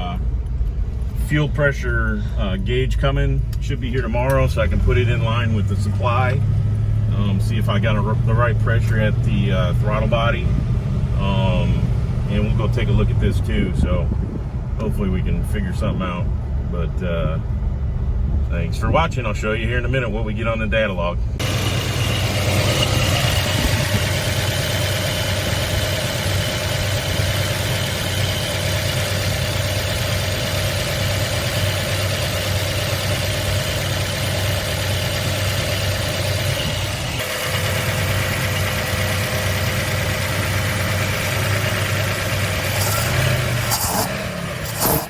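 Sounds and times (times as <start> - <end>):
engine running with low hum: 0.0 - 45.0.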